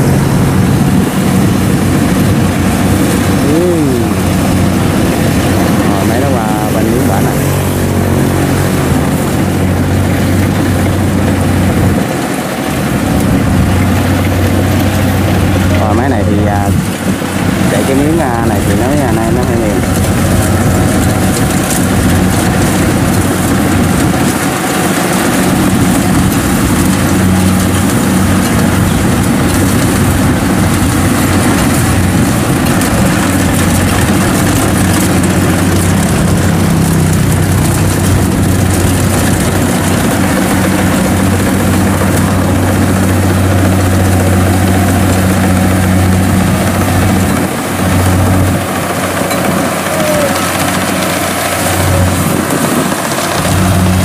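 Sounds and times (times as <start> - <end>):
combine harvester diesel engine drone: 0.0 - 54.0
machine working clatter: 0.0 - 54.0.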